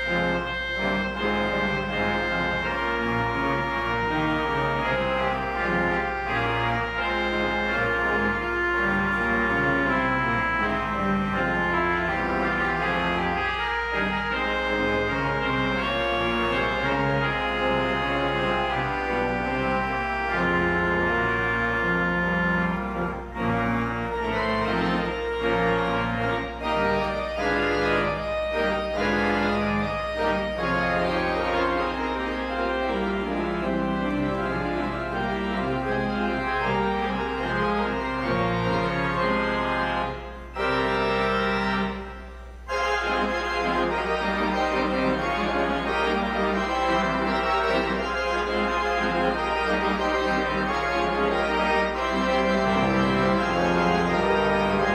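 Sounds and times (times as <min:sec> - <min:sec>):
church organ playing chords: 0:00.0 - 0:54.9.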